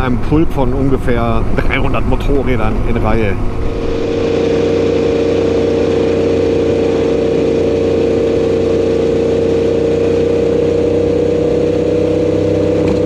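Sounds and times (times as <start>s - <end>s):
motorcycle engine droning: 0.0s - 13.0s
road noise: 0.0s - 13.0s.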